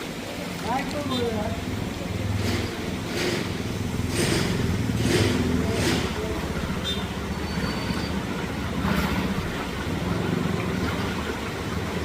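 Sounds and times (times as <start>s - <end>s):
vehicle engine rumble: 0.8s - 12.0s.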